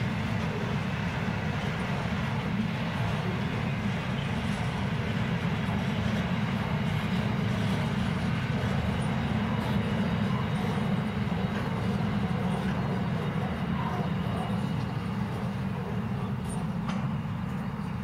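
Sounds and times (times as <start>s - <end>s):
freight train wagons rumbling on rails: 0.0s - 18.0s.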